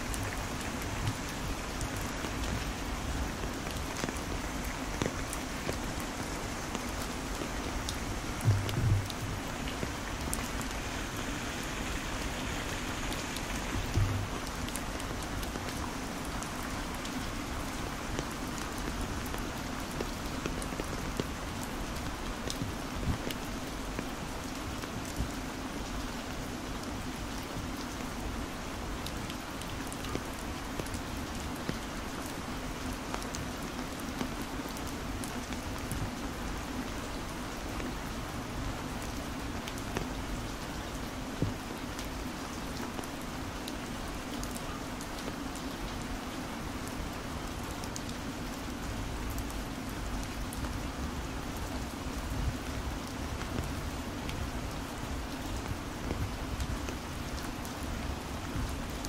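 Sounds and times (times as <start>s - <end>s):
heavy rain falling: 0.0s - 59.0s
raindrops ticking close by: 0.0s - 59.0s.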